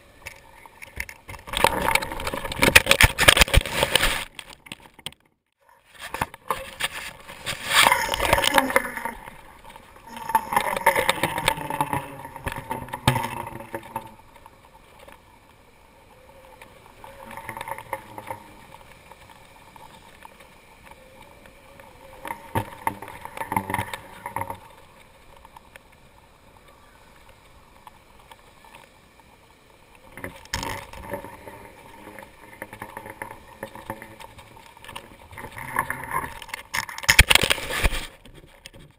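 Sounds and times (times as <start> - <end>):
kite fabric fluttering: 0.0 - 5.0, 5.6 - 28.9, 30.0 - 38.9.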